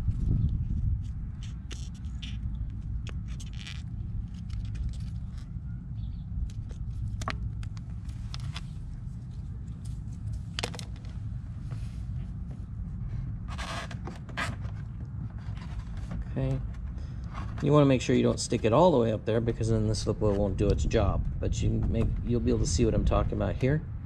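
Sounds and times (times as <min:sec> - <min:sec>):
low rumble: 0:00.0 - 0:13.5, 0:18.2 - 0:24.0.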